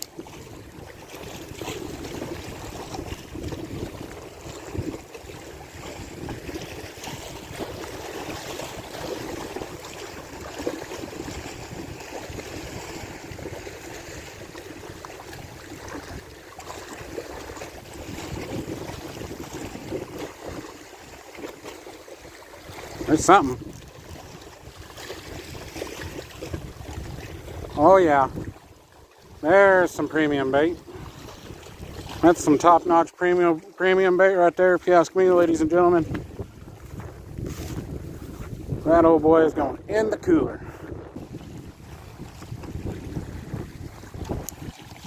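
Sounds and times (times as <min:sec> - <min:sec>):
wind on microphone: 0:00.0 - 0:21.5, 0:22.2 - 0:32.8, 0:35.3 - 0:45.0
waves lapping on rocky shore: 0:00.0 - 0:45.0.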